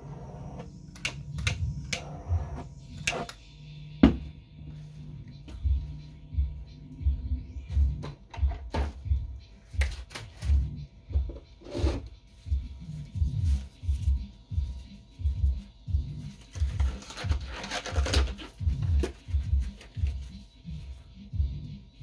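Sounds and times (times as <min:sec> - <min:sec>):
music with thumping bass beat: 0:00.0 - 0:22.0.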